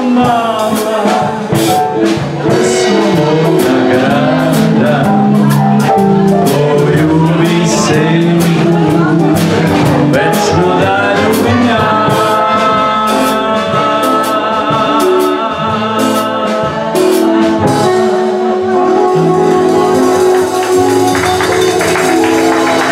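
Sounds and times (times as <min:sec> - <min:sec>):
man singing into a microphone: 0:00.0 - 0:20.9
percussion: 0:00.0 - 0:22.9
saxophone: 0:00.0 - 0:22.9.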